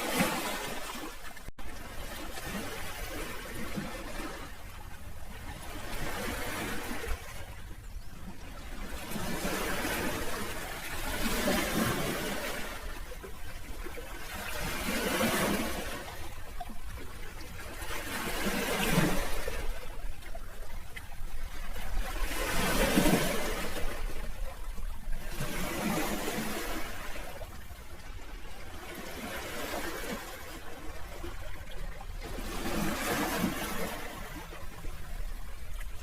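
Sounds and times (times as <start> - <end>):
sea waves washing in: 0.0 - 36.0.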